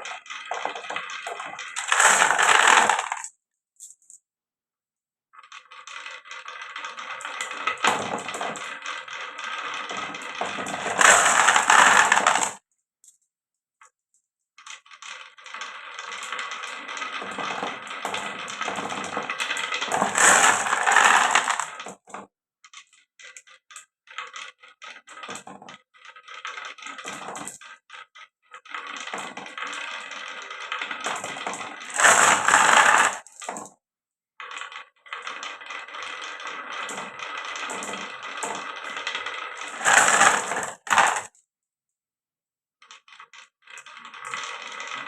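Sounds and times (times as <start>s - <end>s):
marbles rolling and clacking: 0.0s - 4.2s, 5.4s - 13.2s, 14.6s - 33.8s, 34.4s - 41.4s, 42.8s - 45.0s.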